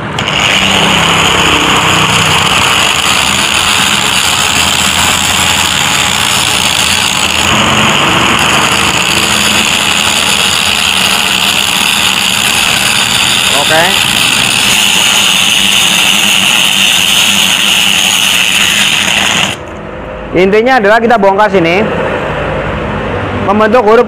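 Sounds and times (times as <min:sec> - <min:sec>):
angle grinder cutting steel: 0:00.0 - 0:19.6.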